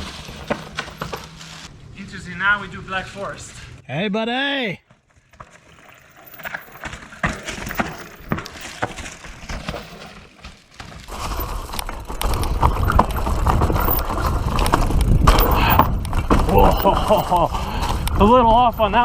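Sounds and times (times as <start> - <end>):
knocks and rattles: 0.0 - 1.7, 4.9 - 19.0
bike tyres crunching on dirt: 0.0 - 3.8, 4.8 - 19.0.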